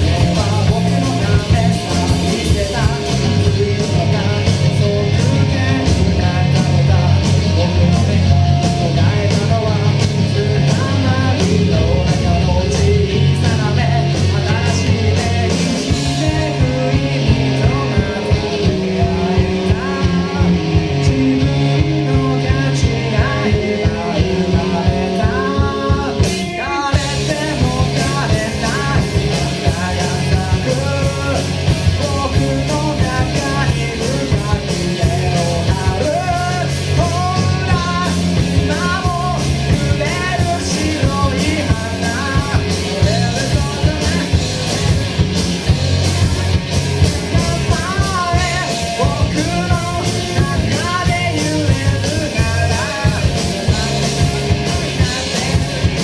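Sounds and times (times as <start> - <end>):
person singing: 0.0 - 56.0
rock band playing live: 0.0 - 56.0.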